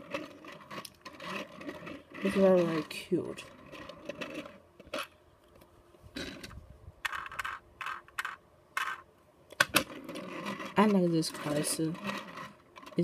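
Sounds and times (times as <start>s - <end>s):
plastic toy train scraping and clicking: 0.0s - 5.2s, 6.2s - 13.0s.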